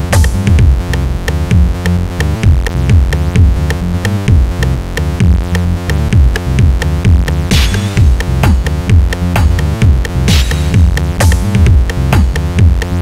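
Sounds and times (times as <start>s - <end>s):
drum-machine beat: 0.0s - 13.0s
synthesizer: 0.0s - 13.0s.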